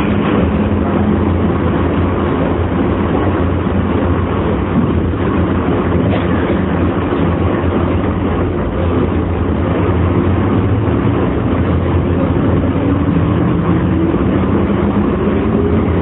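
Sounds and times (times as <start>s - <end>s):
air-conditioning noise: 0.0s - 16.0s
train motors and wheels on rail: 0.0s - 16.0s
wind-like noise: 0.0s - 16.0s.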